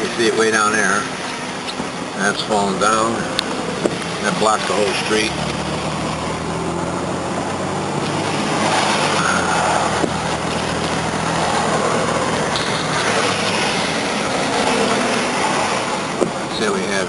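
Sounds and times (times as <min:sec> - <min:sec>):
car engine humming: 0:00.0 - 0:17.0
road noise: 0:00.0 - 0:17.0.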